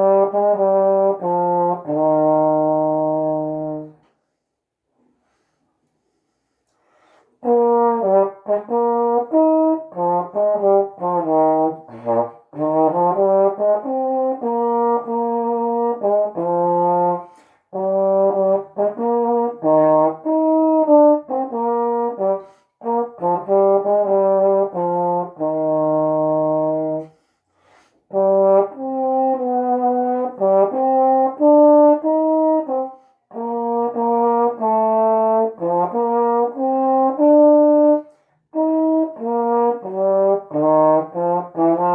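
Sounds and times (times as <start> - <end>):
solo trombone hymn melody: 0.0 - 4.1, 7.4 - 41.9.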